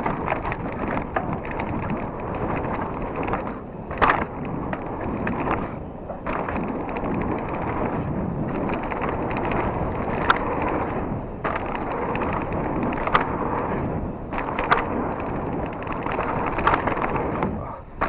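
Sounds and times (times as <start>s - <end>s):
bike clattering: 0.0s - 18.0s
bike knocking over bumps: 0.0s - 18.0s
bike tyres and wind rushing: 0.0s - 18.0s.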